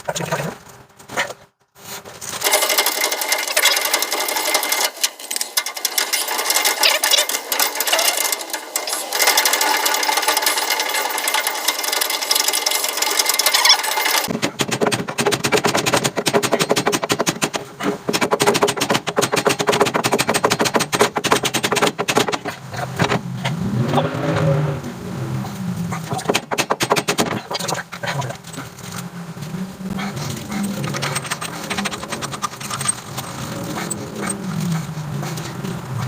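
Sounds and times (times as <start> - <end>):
rapid mechanical clatter: 2.2 - 24.0, 25.9 - 36.0.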